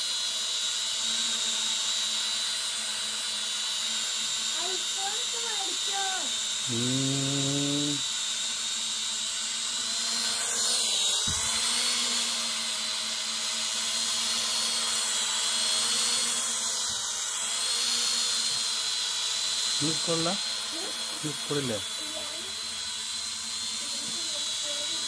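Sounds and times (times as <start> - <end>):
drone propellers whining: 2.3 - 25.0.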